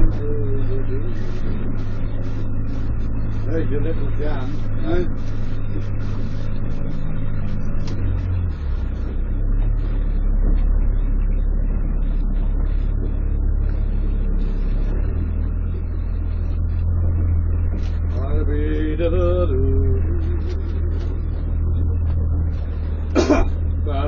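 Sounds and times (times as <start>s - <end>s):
boat engine low rumble: 0.0s - 24.0s.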